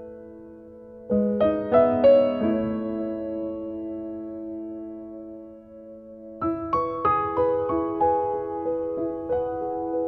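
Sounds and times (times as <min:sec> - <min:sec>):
soft piano melody: 0:00.0 - 0:10.0.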